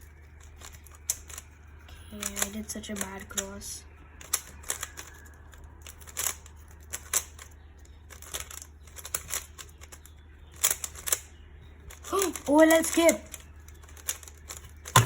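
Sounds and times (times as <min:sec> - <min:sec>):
puzzle cube clicking and clacking: 0:00.3 - 0:01.6, 0:02.2 - 0:03.5, 0:04.2 - 0:15.0.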